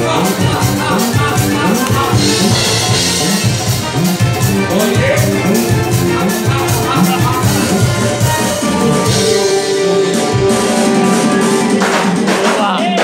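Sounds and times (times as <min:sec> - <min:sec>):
electric bass line: 0:00.0 - 0:12.9
live band playing dance music: 0:00.0 - 0:13.0.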